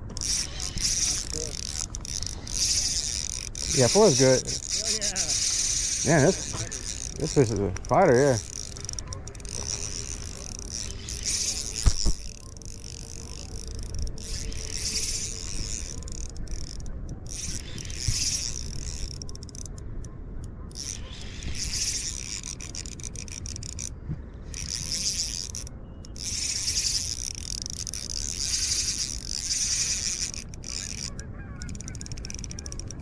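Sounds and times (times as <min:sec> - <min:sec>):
fishing reel cranked whirring: 0:00.0 - 0:19.8, 0:20.7 - 0:23.9, 0:24.5 - 0:33.0
low wind rumble: 0:00.0 - 0:33.0.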